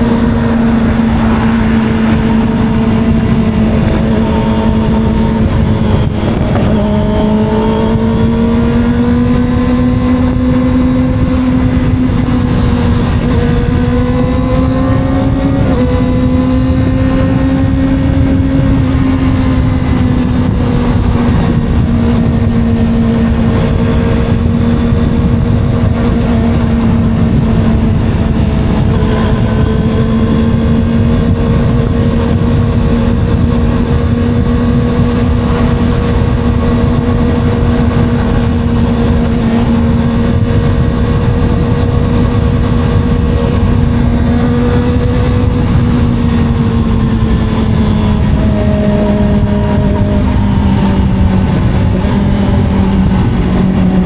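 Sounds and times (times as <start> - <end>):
motorcycle engine cruising: 0.0 - 54.0
wind rumble on microphone: 0.0 - 54.0.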